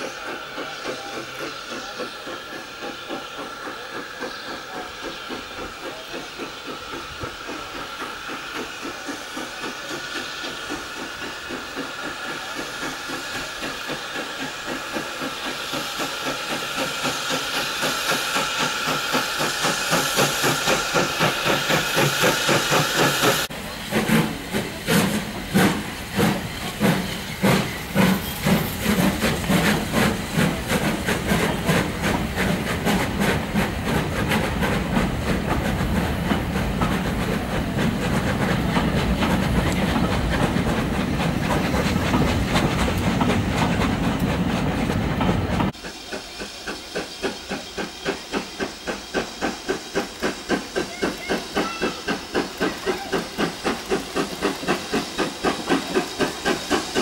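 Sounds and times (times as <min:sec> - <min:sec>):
steam hissing: 0:00.0 - 0:57.0
steam locomotive chuffing: 0:00.0 - 0:57.0.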